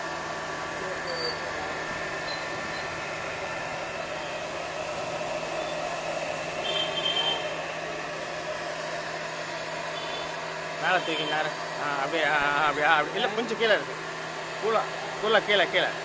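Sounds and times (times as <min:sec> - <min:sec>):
blower fan whine and air rush: 0:00.0 - 0:16.0.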